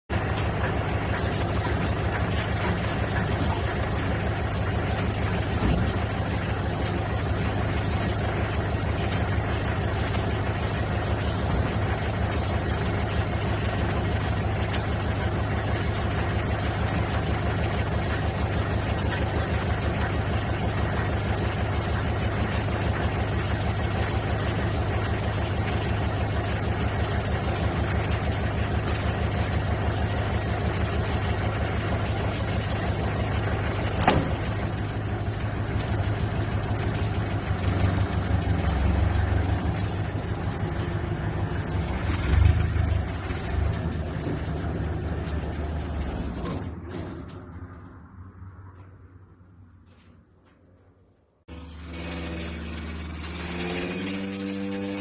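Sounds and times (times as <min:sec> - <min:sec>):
engine knock: 0:00.1 - 0:47.8, 0:51.5 - 0:55.0
diesel engine idling: 0:00.1 - 0:48.9.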